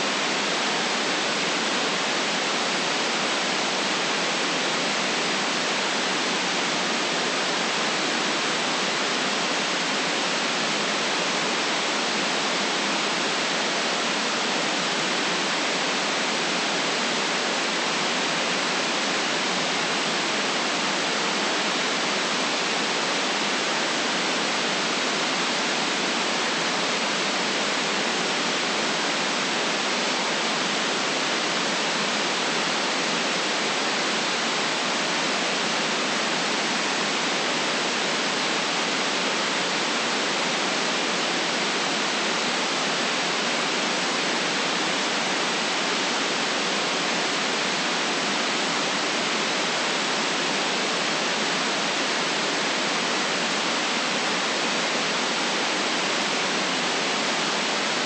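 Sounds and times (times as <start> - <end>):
steady white noise: 0.0 - 58.0.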